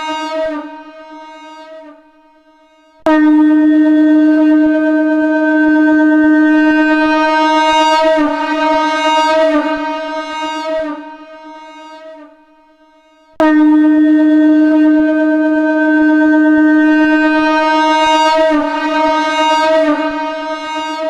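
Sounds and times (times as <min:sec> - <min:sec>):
conch shell long note: 0:00.0 - 0:21.0.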